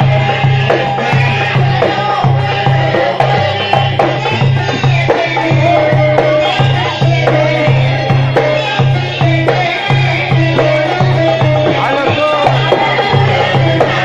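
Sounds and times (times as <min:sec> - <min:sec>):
folk music with pulsing beat: 0:00.0 - 0:14.0.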